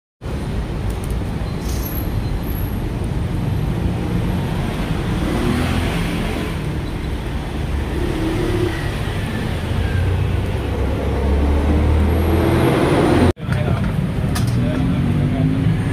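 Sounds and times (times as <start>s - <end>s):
road traffic rumble: 0.2s - 15.9s.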